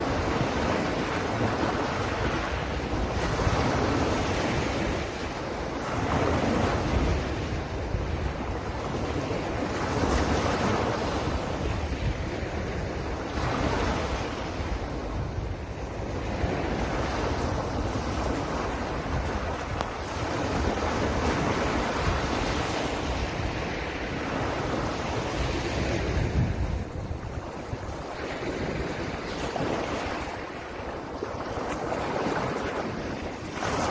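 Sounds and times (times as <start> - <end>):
ocean waves breaking: 0.0 - 33.9
wind buffeting microphone: 0.0 - 33.9.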